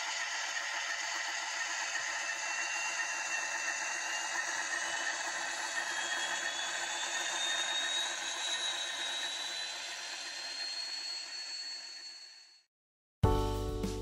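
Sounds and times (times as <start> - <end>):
model locomotive engine sound: 0.0 - 12.6.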